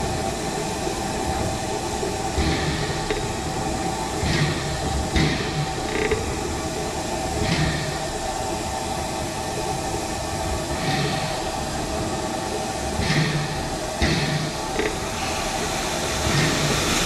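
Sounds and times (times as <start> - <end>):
soft locomotive beats: 0.0 - 17.0
steam locomotive hissing and running: 0.0 - 17.0.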